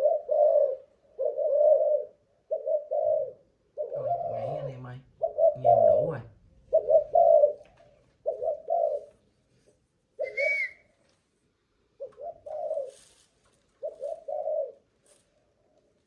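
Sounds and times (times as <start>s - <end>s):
dove cooing: 0.0s - 9.4s, 10.2s - 10.9s, 11.9s - 15.7s.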